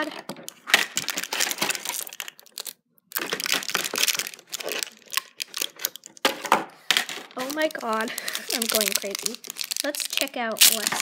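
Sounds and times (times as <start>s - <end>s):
plastic packaging crinkling: 0.4s - 11.0s.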